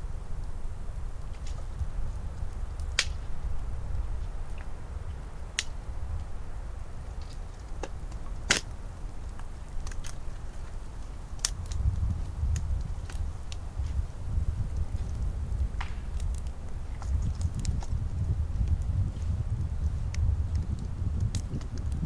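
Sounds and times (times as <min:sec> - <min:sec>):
low steady rumble: 0:00.0 - 0:22.0
wood fire crackling: 0:00.0 - 0:22.0.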